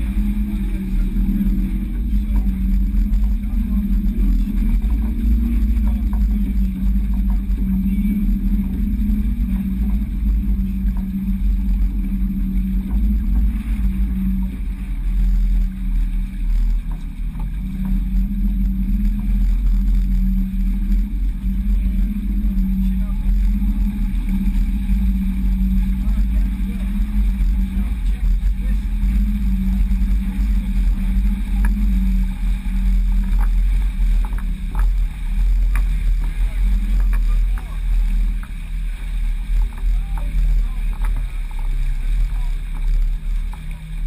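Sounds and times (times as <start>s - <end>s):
water rushing along hull: 0.0s - 44.0s
wind buffeting microphone: 0.0s - 44.0s.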